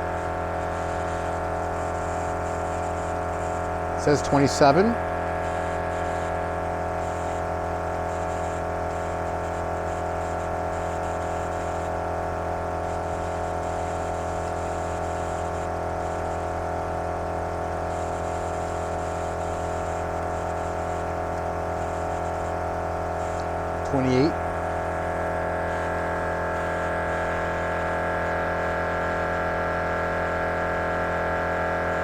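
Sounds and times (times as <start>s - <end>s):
air compressor humming: 0.0s - 32.0s.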